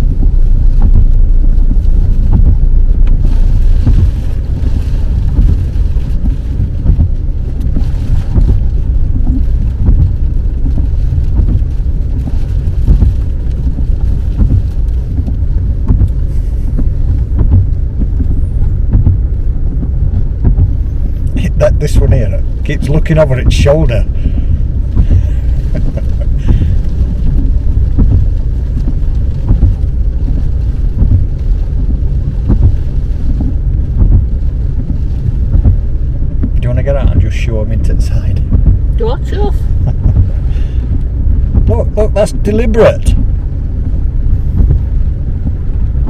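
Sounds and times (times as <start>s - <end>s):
road and engine rumble: 0.0s - 46.0s.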